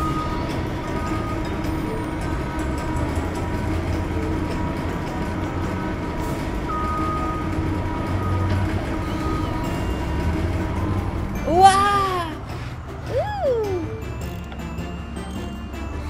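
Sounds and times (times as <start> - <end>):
heavy machine engine drone: 0.0 - 16.0.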